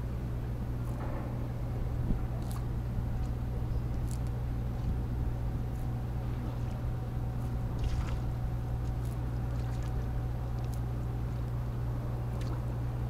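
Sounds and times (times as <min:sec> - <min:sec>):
low mechanical hum: 0:00.0 - 0:13.0
outdoor background noise: 0:00.0 - 0:13.0.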